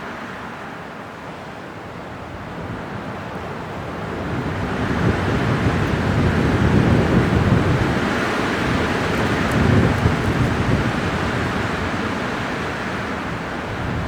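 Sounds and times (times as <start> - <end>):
wind blowing: 2.4 - 14.0.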